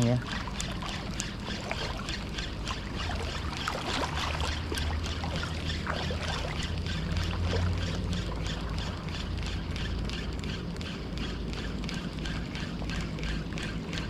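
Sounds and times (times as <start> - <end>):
low steady rumble: 0.0 - 14.0
small splashes: 0.0 - 14.0
small waves lapping: 0.0 - 14.0.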